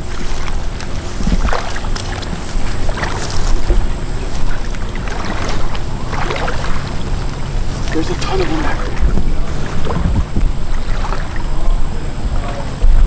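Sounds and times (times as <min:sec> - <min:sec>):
water sloshing and splashing: 0:00.0 - 0:13.0
wind rumble on microphone: 0:00.0 - 0:13.0.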